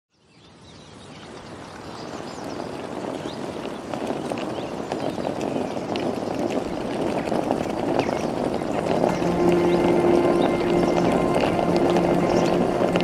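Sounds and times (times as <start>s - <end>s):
birds chirping: 0.2s - 13.0s
wheeled suitcase rolling on tarmac: 0.8s - 13.0s.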